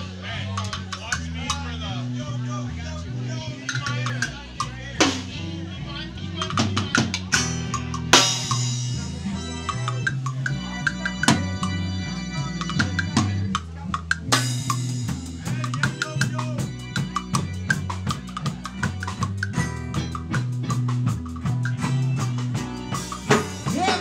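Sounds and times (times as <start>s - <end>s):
drum kit played busily: 0.0s - 24.0s
live band music: 0.0s - 24.0s
low bass line: 0.0s - 24.0s.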